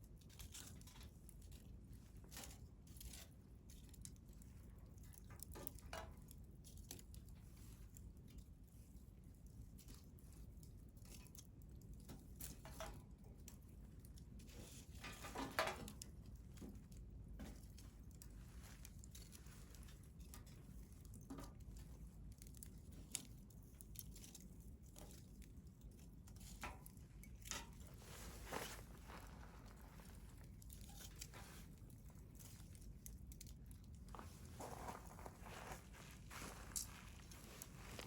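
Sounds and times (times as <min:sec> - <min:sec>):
wood fire crackling and popping: 0:00.2 - 0:08.6, 0:09.4 - 0:38.0.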